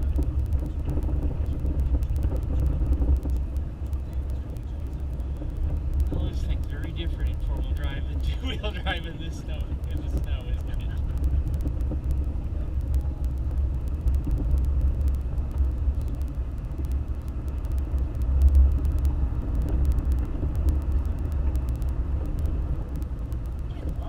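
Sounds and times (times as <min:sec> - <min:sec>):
car engine and tyres rumbling: 0:00.0 - 0:24.0
faint sharp ticks: 0:00.0 - 0:24.0.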